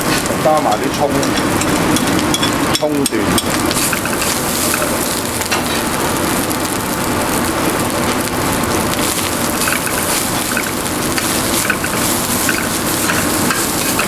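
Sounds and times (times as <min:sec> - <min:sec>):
rice sizzling in a wok: 0:00.0 - 0:14.0.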